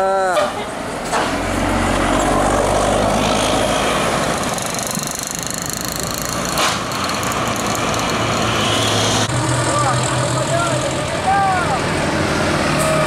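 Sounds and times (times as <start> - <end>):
road traffic: 0.0 - 13.0
tour bus diesel engine: 0.0 - 13.0.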